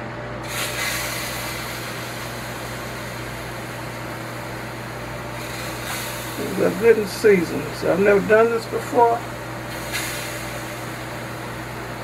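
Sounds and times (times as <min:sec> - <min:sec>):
air fryer fan running: 0:00.0 - 0:12.0
low electrical hum: 0:00.0 - 0:12.0.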